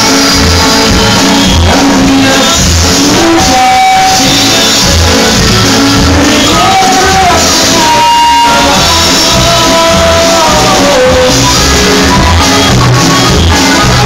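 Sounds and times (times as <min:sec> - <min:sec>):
live band playing: 0:00.0 - 0:14.0
person singing: 0:00.0 - 0:14.0
pulsing bass beat: 0:00.0 - 0:14.0.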